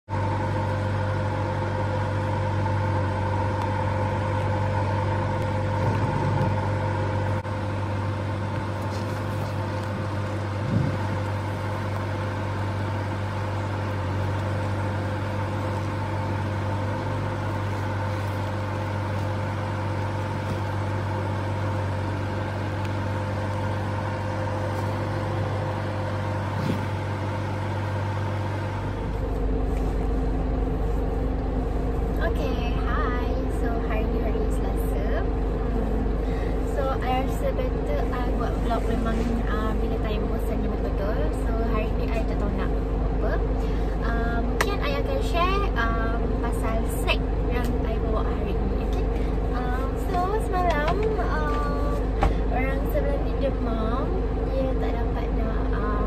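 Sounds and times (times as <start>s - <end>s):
lorry engine low hum: 0.0s - 56.0s
faint steady whine: 0.1s - 56.0s.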